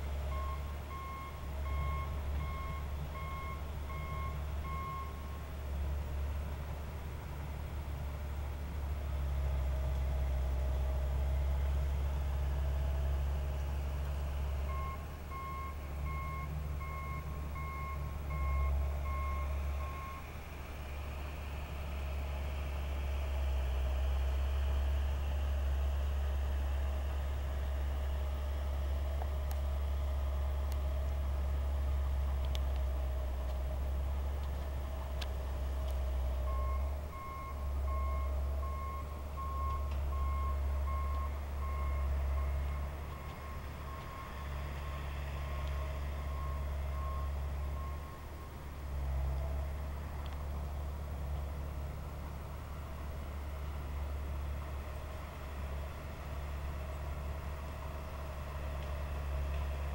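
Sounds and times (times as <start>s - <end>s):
low diesel engine rumble: 0.0s - 59.9s.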